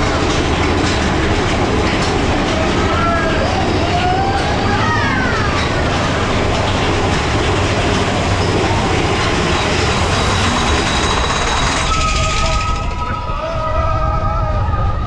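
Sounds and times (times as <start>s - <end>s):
roller coaster cars rumbling: 0.0s - 15.0s
high gliding squeals: 2.8s - 15.0s.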